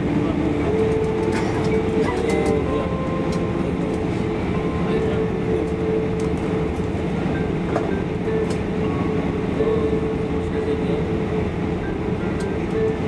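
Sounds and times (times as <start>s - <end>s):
aircraft engines idling: 0.0s - 13.0s
steady cabin hum: 0.0s - 13.0s
wheels rumbling on taxiway: 0.0s - 13.0s.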